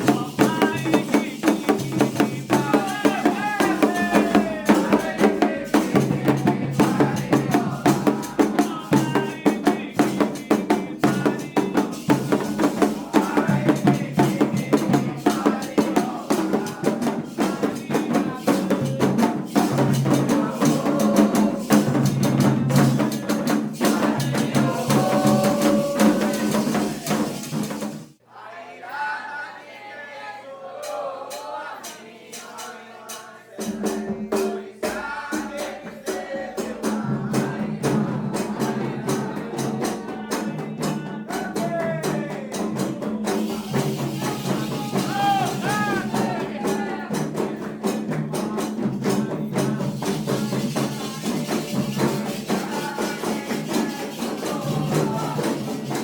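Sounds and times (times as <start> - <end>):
person singing: 0.0 - 27.6, 30.6 - 56.0
drumming and hand percussion: 0.0 - 28.2, 30.6 - 56.0.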